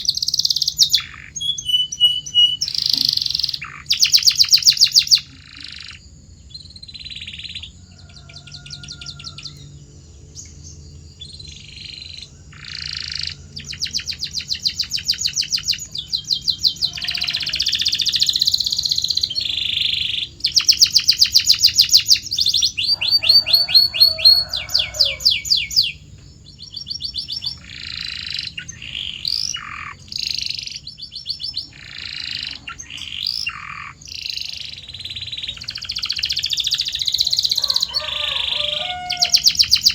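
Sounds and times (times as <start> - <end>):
canary singing trilled phrases: 0.0 - 9.8, 10.4 - 39.9.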